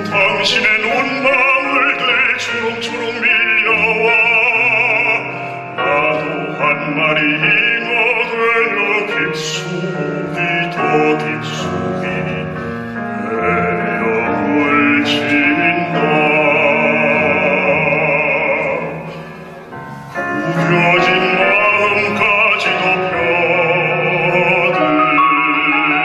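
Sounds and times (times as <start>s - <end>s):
baritone operatic singing: 0.0s - 26.0s.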